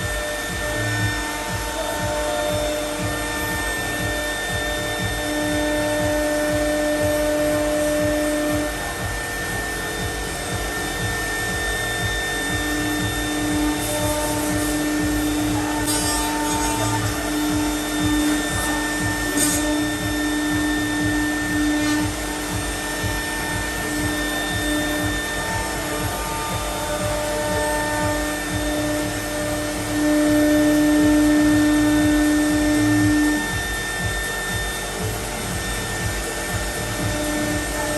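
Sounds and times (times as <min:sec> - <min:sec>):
milling router whine: 0:00.0 - 0:37.9.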